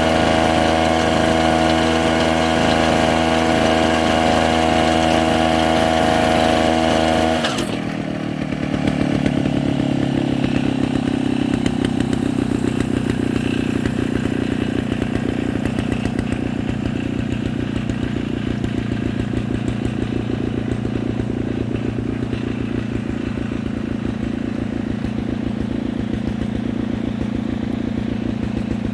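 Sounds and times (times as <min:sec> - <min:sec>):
small two-stroke engine running: 0:00.0 - 0:28.9.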